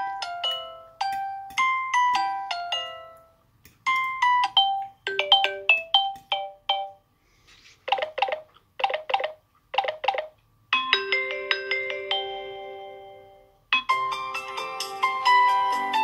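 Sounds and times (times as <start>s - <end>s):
phone ringtone melodies: 0.0s - 3.3s, 3.9s - 7.0s, 7.9s - 16.0s.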